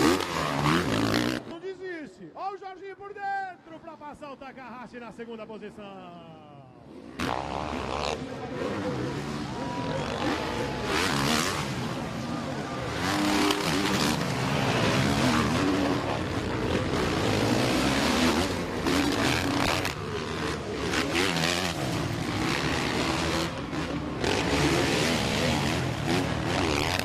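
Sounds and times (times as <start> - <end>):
motocross bike engines revving: 0.0 - 1.7, 6.8 - 27.0.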